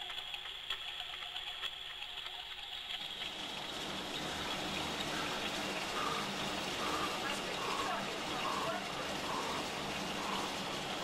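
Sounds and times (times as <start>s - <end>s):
faint rushing water: 0.0s - 11.0s.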